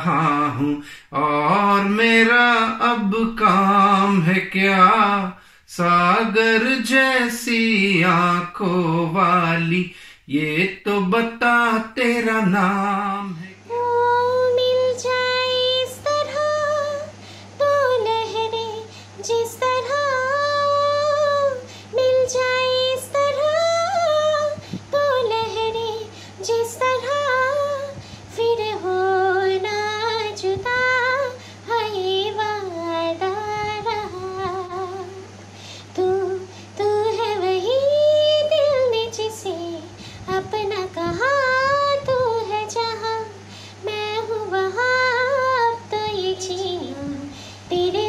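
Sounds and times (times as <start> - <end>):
steady low hum: 0.0 - 48.0
woman singing: 0.0 - 48.0.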